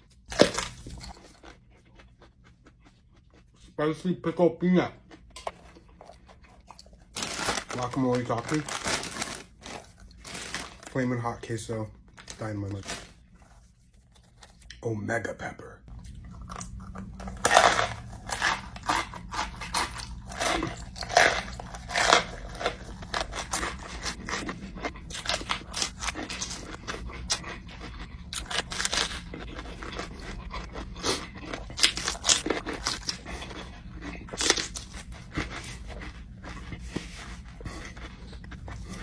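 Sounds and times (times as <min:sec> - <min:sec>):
crunching and chewing pepper: 0:00.0 - 0:14.8, 0:15.9 - 0:39.0
steady low hum: 0:00.0 - 0:39.0.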